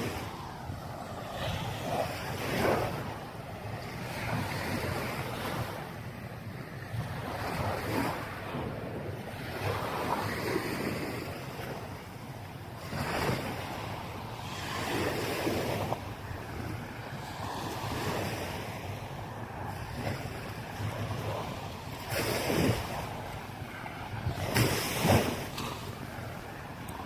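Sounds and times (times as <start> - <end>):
small waves breaking on beach: 0.0 - 27.0
wind rumbling on microphone: 0.0 - 27.0.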